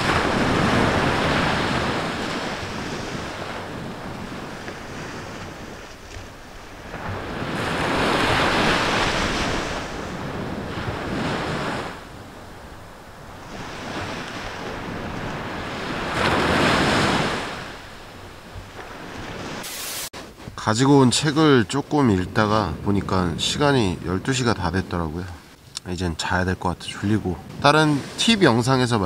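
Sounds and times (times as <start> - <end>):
sea waves washing onto shore: 0.0 - 29.0.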